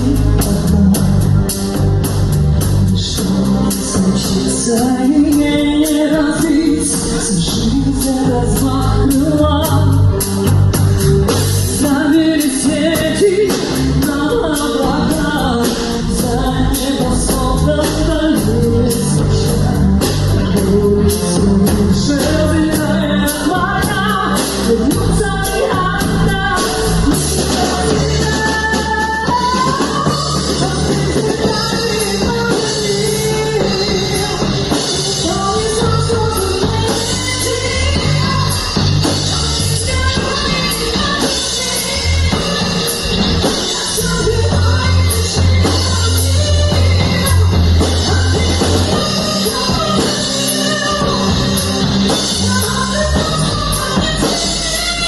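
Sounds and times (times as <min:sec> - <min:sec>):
rock band song: 0:00.0 - 0:55.0.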